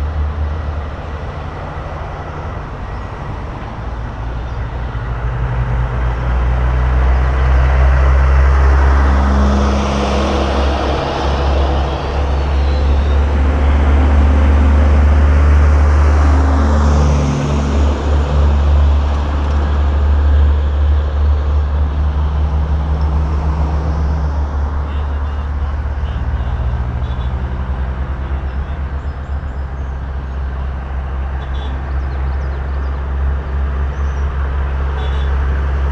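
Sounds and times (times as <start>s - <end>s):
trucks driving past: 0.0s - 35.9s.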